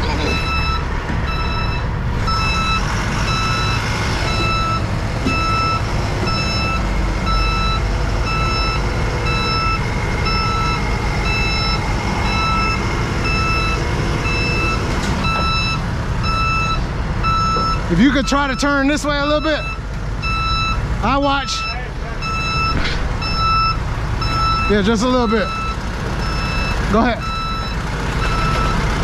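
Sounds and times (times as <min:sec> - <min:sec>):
back-up alarm beeping: 0:00.0 - 0:28.9
diesel engine running: 0:00.0 - 0:29.0.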